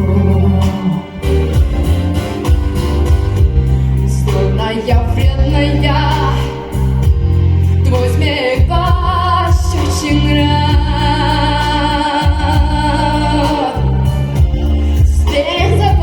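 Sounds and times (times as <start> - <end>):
woman singing: 0.0 - 1.4, 4.0 - 16.0
backing track with bass: 0.0 - 16.0.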